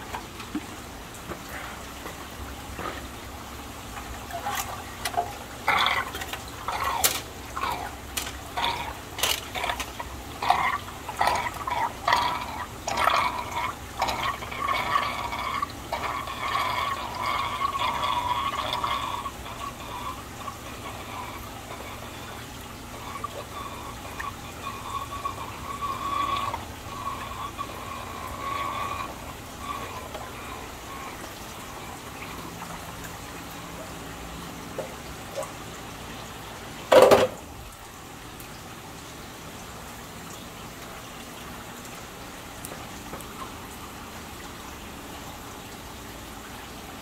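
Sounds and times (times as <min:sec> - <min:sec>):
water pouring and trickling: 0:00.0 - 0:47.0.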